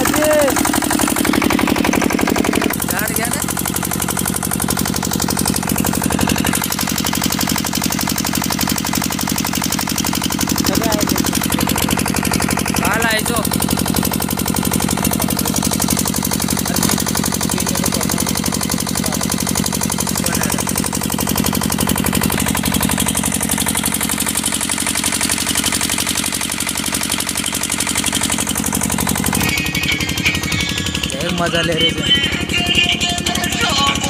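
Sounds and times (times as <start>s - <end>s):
engine running with thumping: 0.0s - 34.0s.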